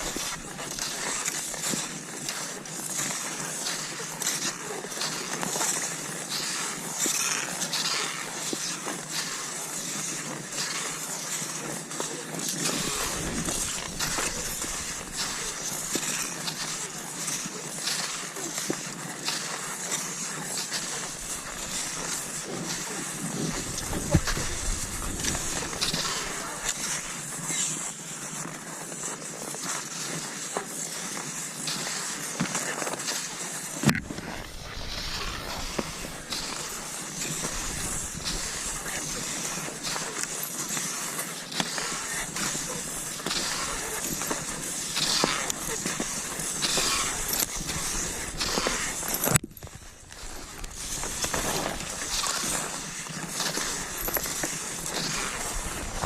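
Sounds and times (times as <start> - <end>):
skis swishing over snow: 0.0 - 56.0.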